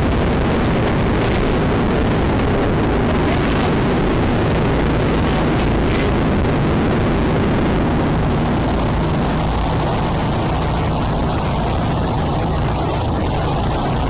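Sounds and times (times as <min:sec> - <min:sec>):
engine running: 0:00.0 - 0:14.0
heavy rushing noise: 0:00.0 - 0:14.0
wind on microphone: 0:00.0 - 0:14.0.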